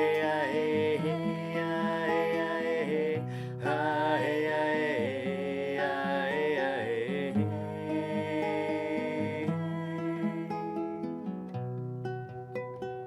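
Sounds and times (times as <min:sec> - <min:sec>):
person singing wordless melody: 0:00.0 - 0:11.2
plucked acoustic guitar: 0:00.0 - 0:13.0.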